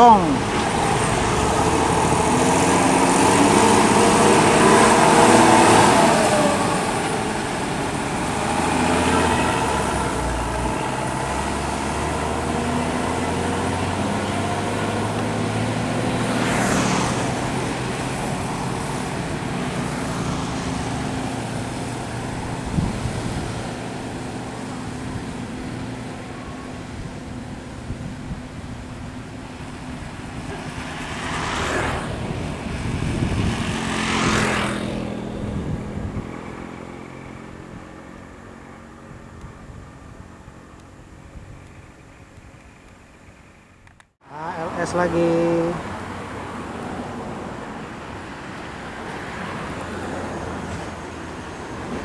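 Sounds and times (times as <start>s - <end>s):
bus diesel engine pulling away: 0.0s - 52.0s
passing vehicle: 0.0s - 52.0s.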